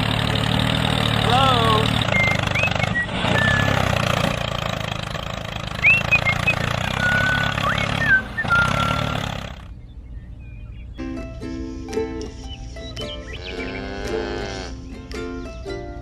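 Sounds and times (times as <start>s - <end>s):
tractor engine running: 0.0s - 14.2s.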